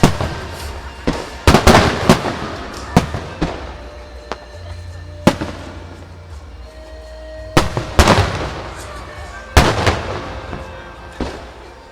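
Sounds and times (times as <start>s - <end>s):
background music: 0.0s - 11.9s
fireworks bangs: 0.0s - 11.9s.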